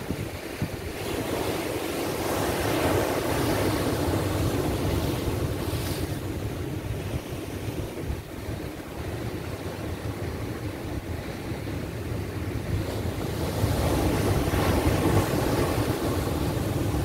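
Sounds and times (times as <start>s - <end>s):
waves breaking on rocks: 0.0s - 17.0s
wind buffeting microphone: 0.0s - 17.0s.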